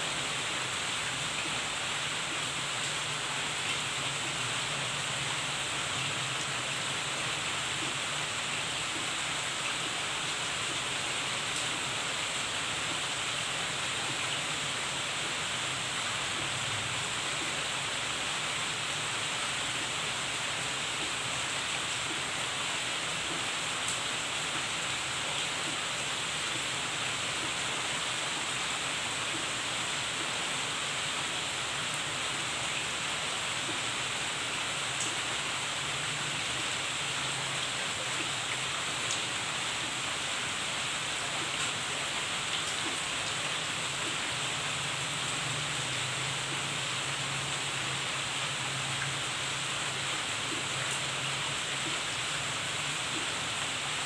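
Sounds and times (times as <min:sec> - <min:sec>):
rain on foliage: 0:00.0 - 0:54.0.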